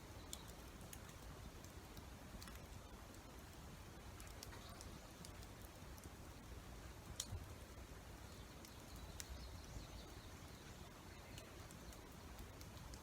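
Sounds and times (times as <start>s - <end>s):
faint campfire crackling: 0.0s - 13.0s.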